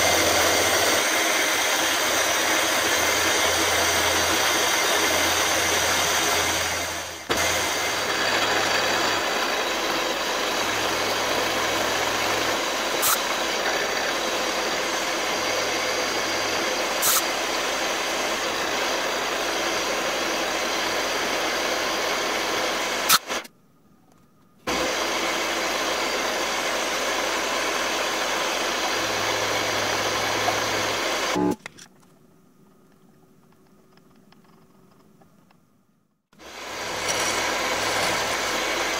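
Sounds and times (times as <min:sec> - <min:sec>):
milling machine cutting metal: 0:00.0 - 0:23.4, 0:24.7 - 0:31.6, 0:36.4 - 0:38.9.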